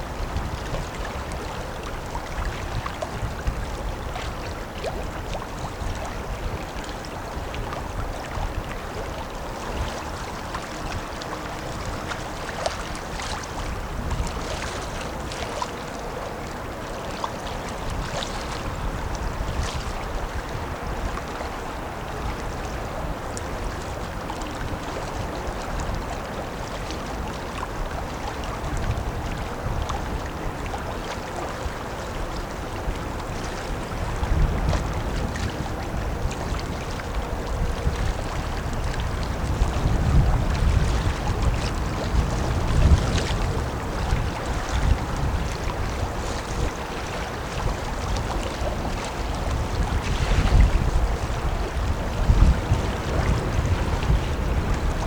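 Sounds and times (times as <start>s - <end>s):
water lapping and splashing: 0.0s - 55.0s
wind on microphone: 0.0s - 55.0s.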